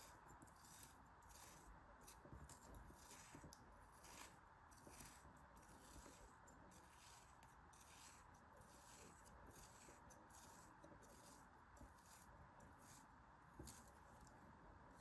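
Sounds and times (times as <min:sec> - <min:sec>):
scratching strokes by hand: 0:00.0 - 0:15.0.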